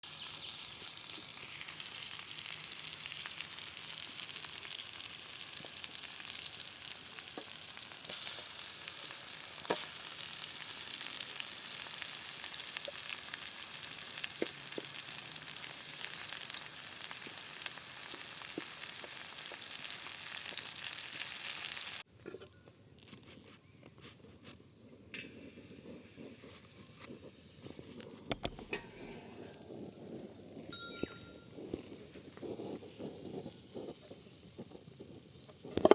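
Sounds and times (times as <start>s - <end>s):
vegetables sizzling in a pan: 0.0s - 22.1s, 28.6s - 35.9s.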